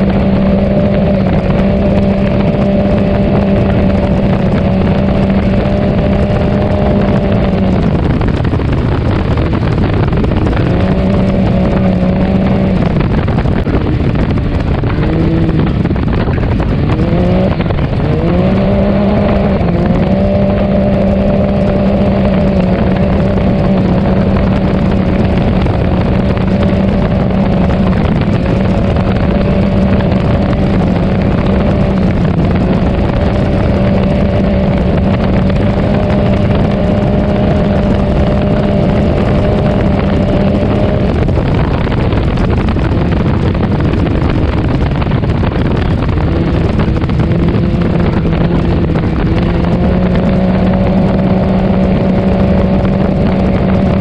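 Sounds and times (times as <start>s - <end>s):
engine running hard: 0.0s - 54.0s.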